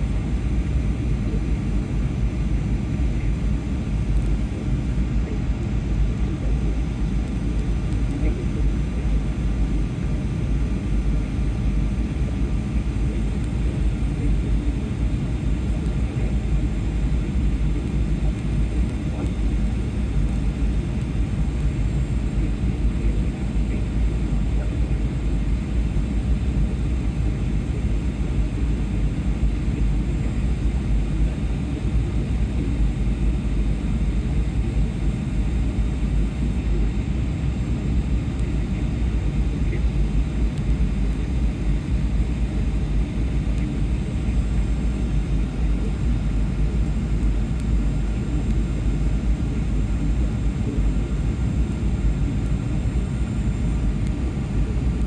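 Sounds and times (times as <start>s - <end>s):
jet engine cabin rumble: 0.0s - 55.0s.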